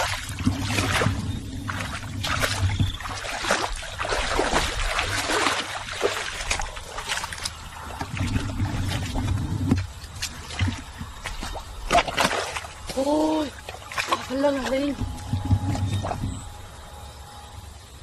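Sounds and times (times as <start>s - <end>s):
shallow water splashing: 0.0s - 16.7s.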